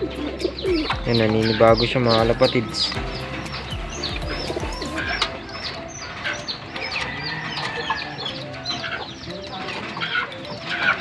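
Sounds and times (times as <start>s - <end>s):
birds chirping: 0.0s - 11.0s
pigeons cooing: 0.0s - 11.0s.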